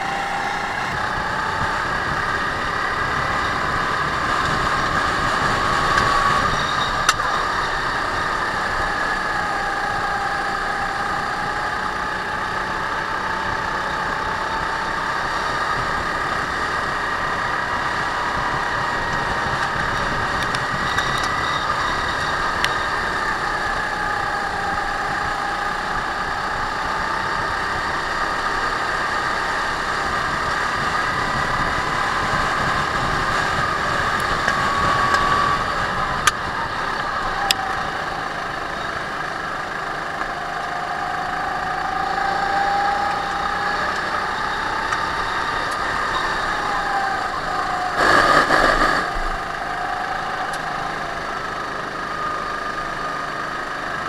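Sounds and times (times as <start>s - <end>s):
kart engine running: 0.0s - 54.0s.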